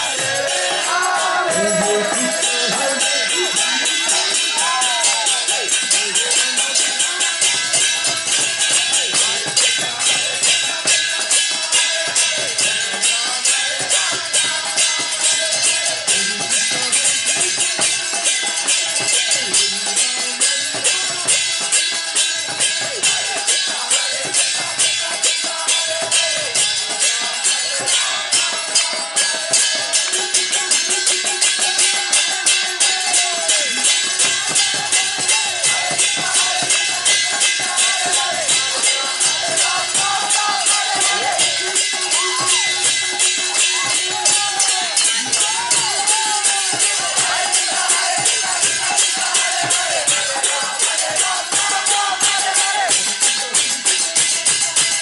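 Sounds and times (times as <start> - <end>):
drum beat: 0.0 - 55.0
group of voices singing: 0.0 - 55.0
hand cymbals: 0.0 - 55.0.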